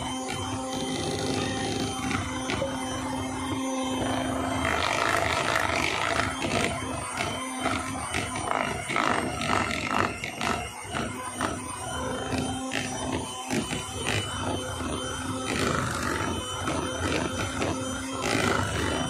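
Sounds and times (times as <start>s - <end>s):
electric hand mixer running: 0.0s - 19.0s.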